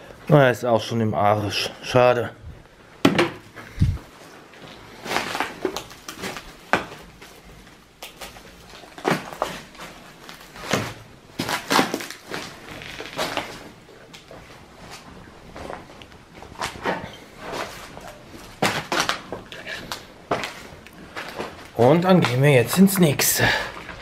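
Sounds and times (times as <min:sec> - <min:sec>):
rubble crunching and clattering: 0:03.0 - 0:24.0.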